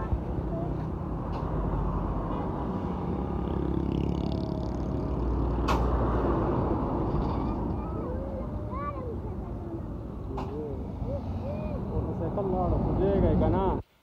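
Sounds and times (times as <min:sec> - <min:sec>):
truck engine and road rumble: 0:00.0 - 0:13.8.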